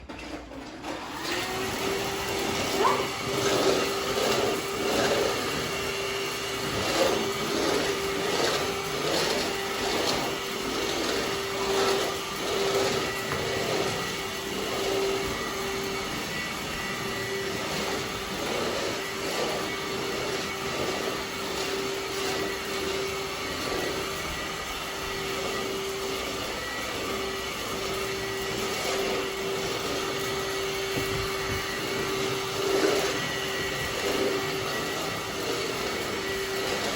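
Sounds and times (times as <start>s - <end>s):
vacuum cleaner whine: 0.0s - 36.9s.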